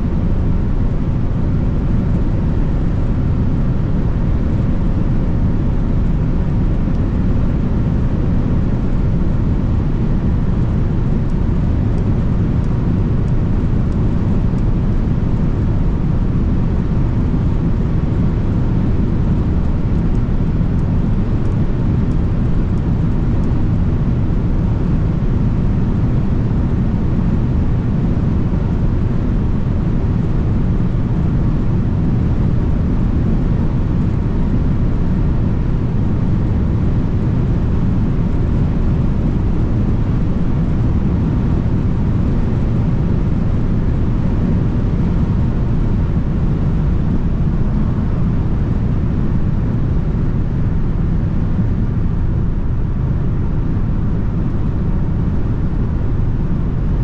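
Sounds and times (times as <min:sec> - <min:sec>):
road and wind noise inside car: 0:00.0 - 0:57.0.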